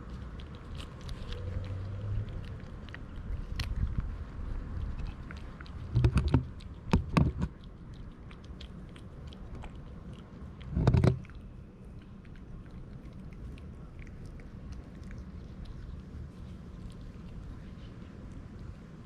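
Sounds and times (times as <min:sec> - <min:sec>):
cats chewing food: 0:00.0 - 0:19.0.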